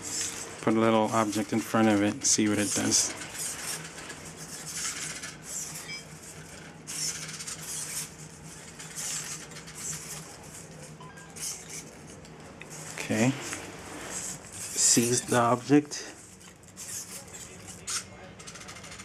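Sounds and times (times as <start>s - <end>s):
servo motors whirring: 0.0s - 19.0s.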